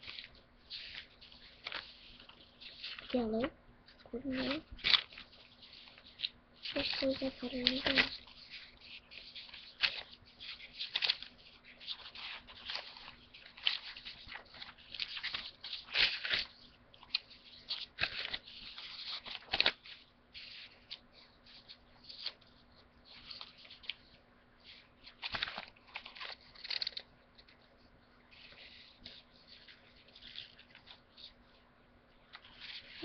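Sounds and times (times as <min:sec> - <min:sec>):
paper rustling and crinkling: 0:00.0 - 0:33.0.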